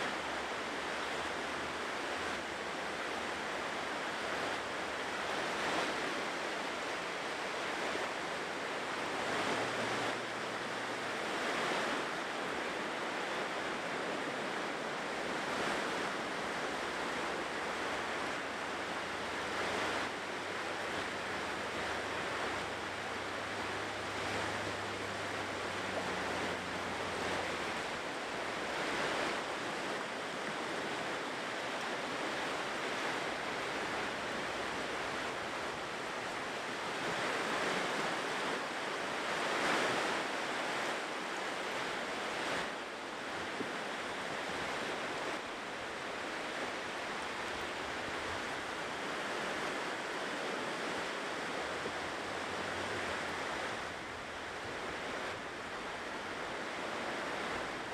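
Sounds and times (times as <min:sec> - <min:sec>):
ocean waves rushing: 0:00.0 - 0:57.9.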